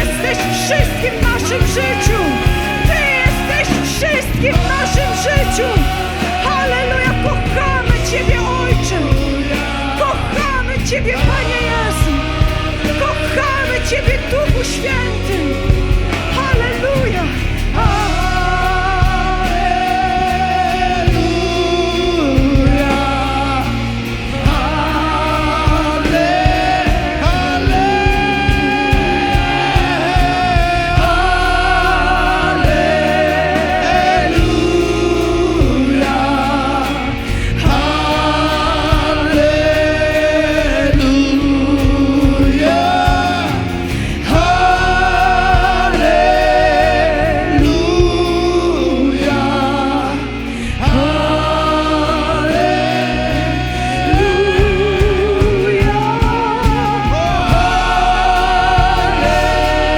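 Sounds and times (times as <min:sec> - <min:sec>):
live worship band music: 0:00.0 - 0:59.9
singers holding long notes: 0:00.0 - 0:59.9.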